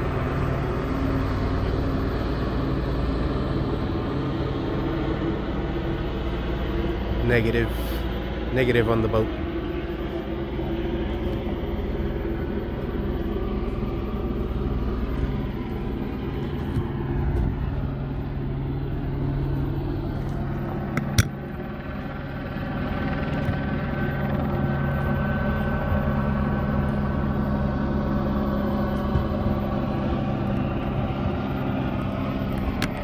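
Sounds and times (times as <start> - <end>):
engine hum: 0.0 - 33.0.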